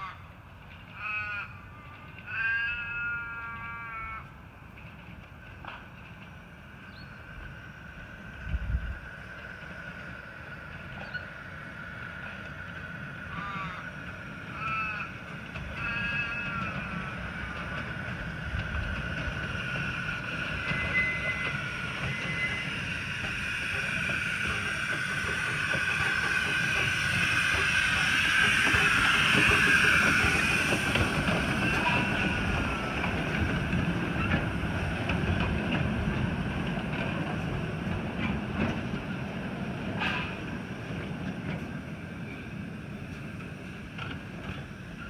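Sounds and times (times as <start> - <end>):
steam locomotive passing: 0.0 - 45.0.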